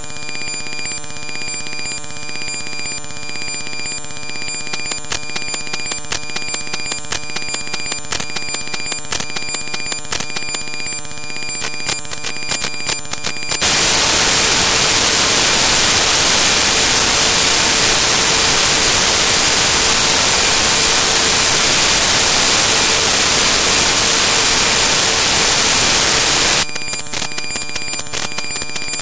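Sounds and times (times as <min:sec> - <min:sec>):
digital static hiss: 0:00.0 - 0:29.0
stacked electronic tones: 0:00.2 - 0:29.0.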